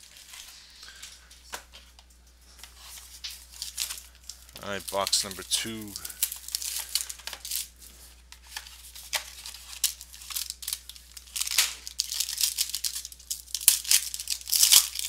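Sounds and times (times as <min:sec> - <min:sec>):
wrapper crinkling and tearing: 0:02.7 - 0:15.0.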